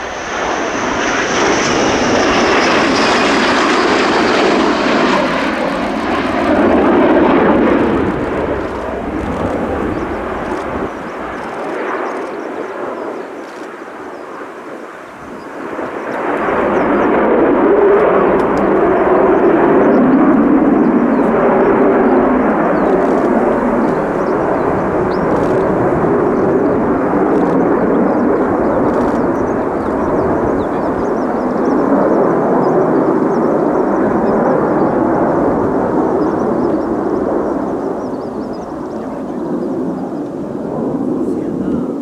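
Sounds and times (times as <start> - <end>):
jet engine rumble: 0.0 - 42.0.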